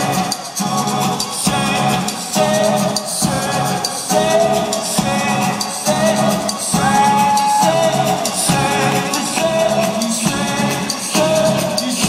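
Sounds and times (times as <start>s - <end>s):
person singing long notes: 0.2s - 12.0s.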